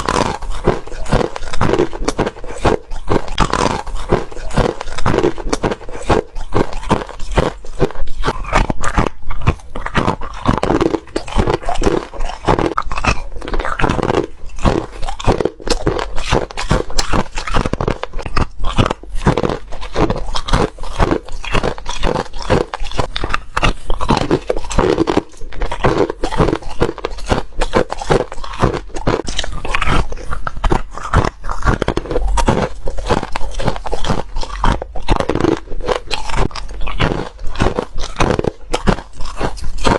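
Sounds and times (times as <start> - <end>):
crushed ice crunching: 0.0 - 39.9.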